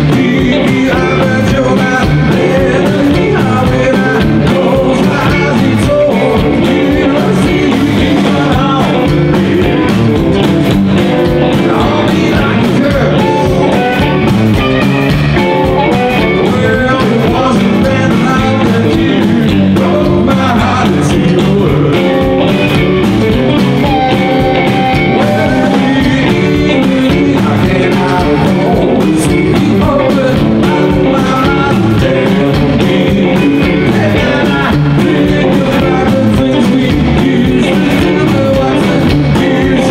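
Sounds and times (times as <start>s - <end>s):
drums: 0.0s - 39.9s
electric guitars: 0.0s - 39.9s
man singing lead: 0.0s - 39.9s
upright double bass: 0.0s - 39.9s.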